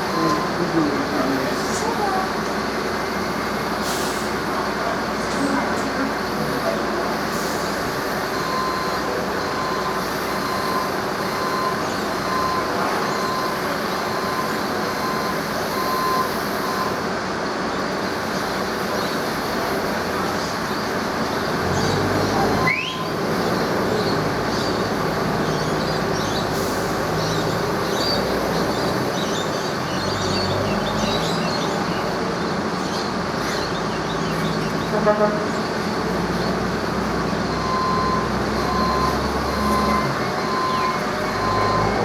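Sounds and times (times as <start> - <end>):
heavy vehicle engine rumbling: 0.0 - 42.0.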